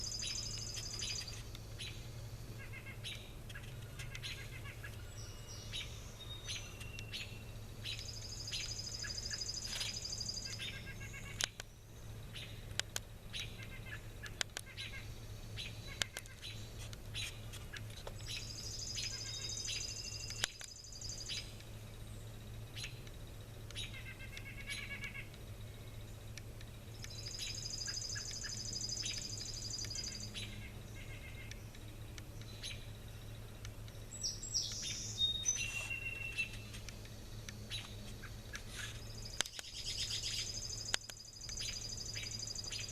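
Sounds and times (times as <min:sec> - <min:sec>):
songbirds singing: 0:00.0 - 0:42.9
steady low hum: 0:00.0 - 0:42.9.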